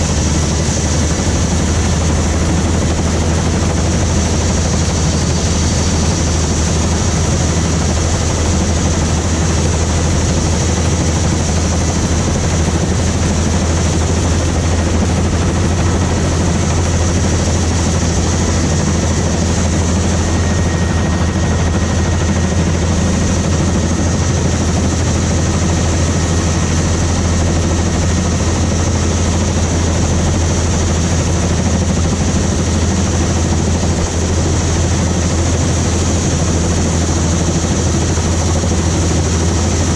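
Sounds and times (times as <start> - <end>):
helicopter rotor drone: 0.0 - 39.9
rushing wind noise: 0.0 - 39.9.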